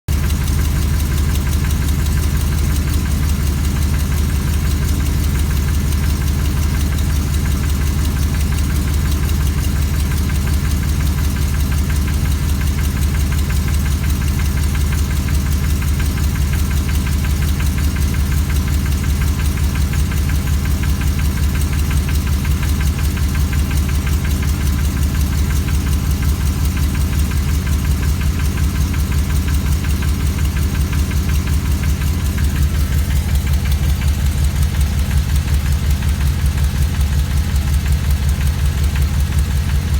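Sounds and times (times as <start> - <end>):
engine idling with rhythmic knock: 0.1 - 39.9.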